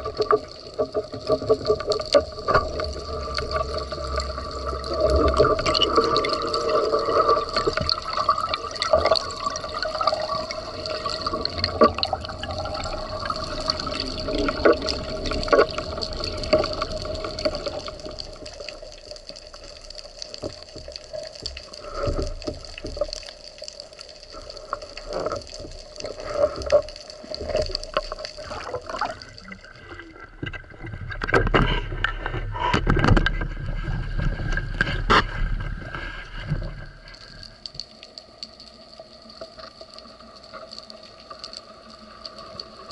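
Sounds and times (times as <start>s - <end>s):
underwater clicks and gurgles: 0.0s - 42.9s
underwater water moving: 0.0s - 42.9s.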